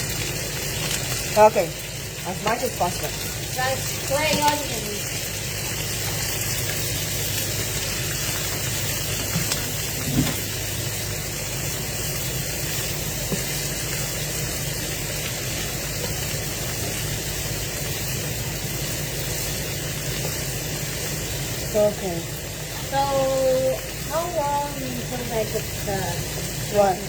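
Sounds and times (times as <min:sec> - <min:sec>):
meat sizzling in a pan: 0:00.0 - 0:27.0.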